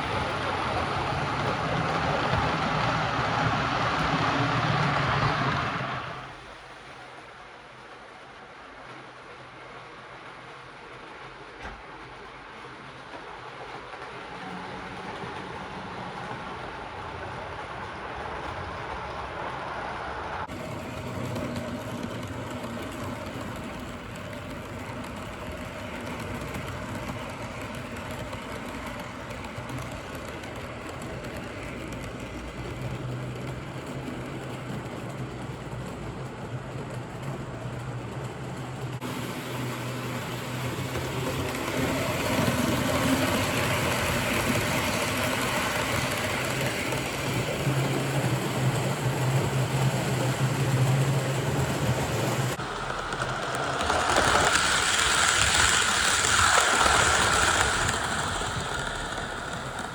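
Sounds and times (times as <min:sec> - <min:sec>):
model locomotive running on track: 0:00.0 - 0:59.9.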